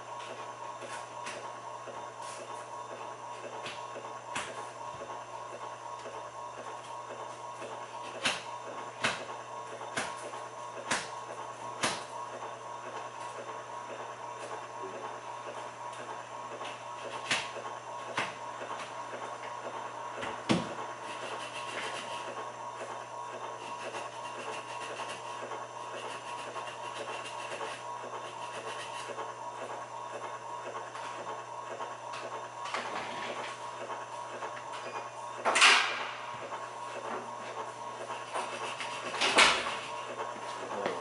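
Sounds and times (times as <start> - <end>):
servo motor hum and whine: 0.0 - 41.0.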